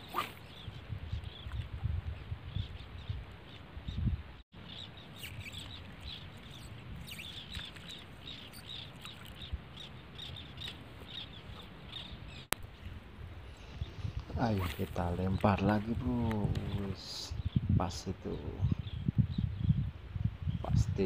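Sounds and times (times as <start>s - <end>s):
small birds chirping: 0.0s - 21.0s
wind buffeting microphone: 0.0s - 21.0s.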